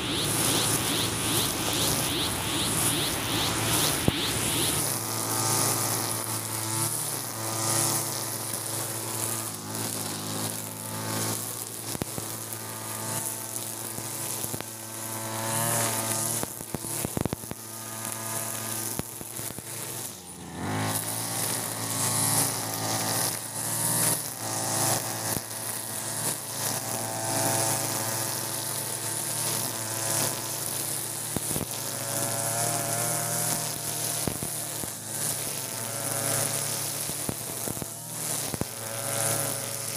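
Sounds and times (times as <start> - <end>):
brush cutter running at high revs: 0.0 - 39.9
trimmer line whirring through grass: 0.0 - 39.9.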